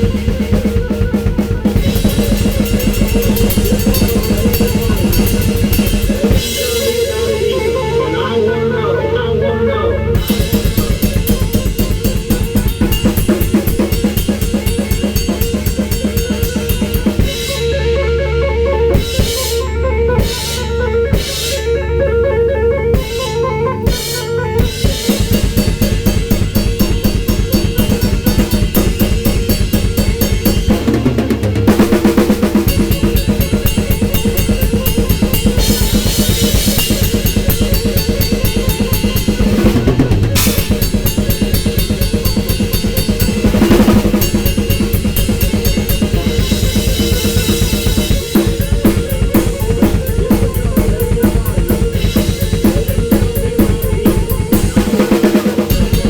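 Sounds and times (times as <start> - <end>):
drum kit playing: 0.0 - 8.4, 10.1 - 22.2, 22.9 - 56.0
low bass: 0.0 - 55.0.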